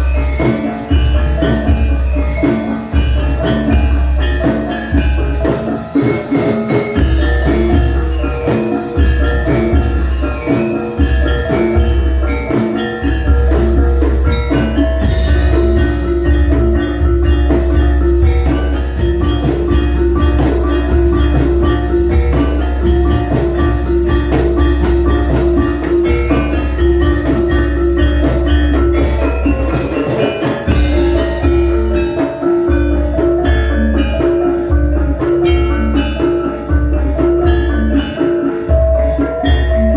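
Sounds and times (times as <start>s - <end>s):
hand drums: 0.0s - 39.9s
metallophones ringing: 0.0s - 39.9s.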